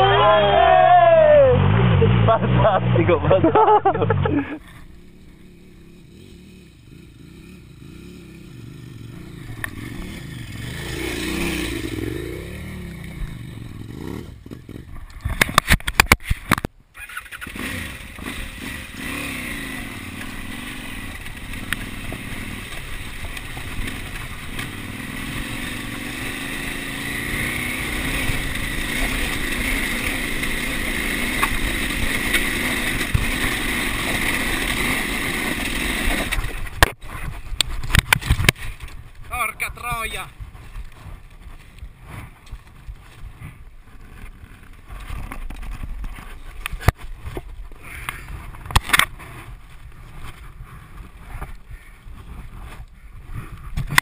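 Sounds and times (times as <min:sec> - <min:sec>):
distant motorcycle engine: 0:00.0 - 0:54.0
motorcycle engine running steadily: 0:03.5 - 0:16.7, 0:17.4 - 0:54.0.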